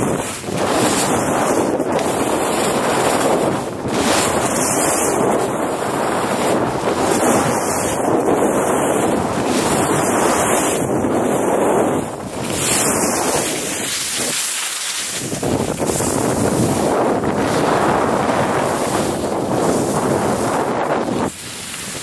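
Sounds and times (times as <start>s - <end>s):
skis hissing through snow: 0.0s - 22.0s
wind buffeting microphone: 0.0s - 22.0s.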